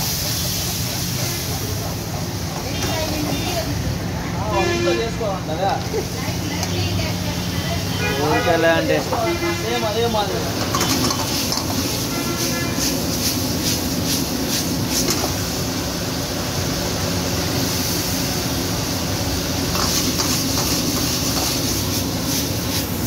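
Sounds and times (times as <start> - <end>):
gas burner rushing: 0.0 - 4.8, 8.5 - 23.0
food sizzling in a wok: 0.0 - 4.9, 5.5 - 23.0.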